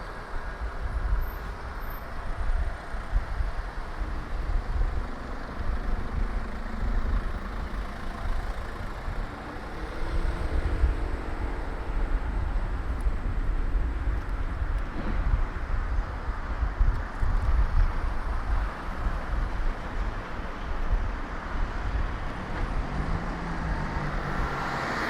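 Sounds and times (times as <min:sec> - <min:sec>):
motor vehicle engine hum: 0:00.0 - 0:25.0
road noise hiss: 0:00.0 - 0:25.0
wind rumble on microphone: 0:00.0 - 0:25.0.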